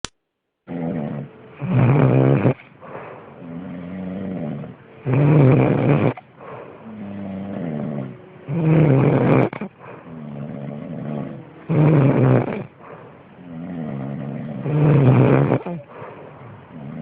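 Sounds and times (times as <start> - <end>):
loud snoring: 0.7 - 17.0.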